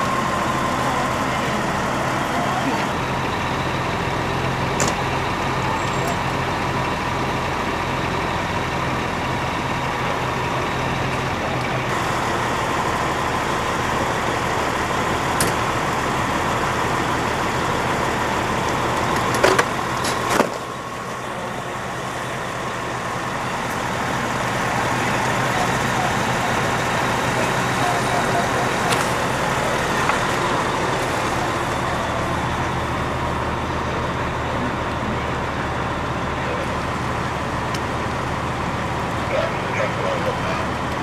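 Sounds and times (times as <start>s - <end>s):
fire engine pump running: 0.0s - 41.0s.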